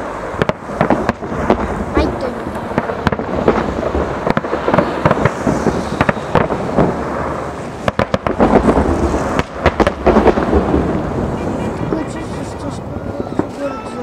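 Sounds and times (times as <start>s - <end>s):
dense firework crackle: 0.0s - 14.0s
firework bangs: 0.0s - 14.0s.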